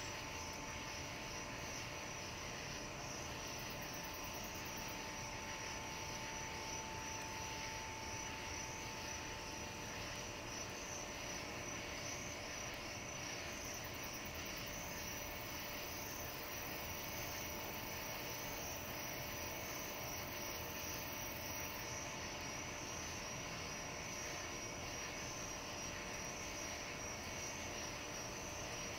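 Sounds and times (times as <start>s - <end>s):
insects chorus: 0.0s - 28.9s.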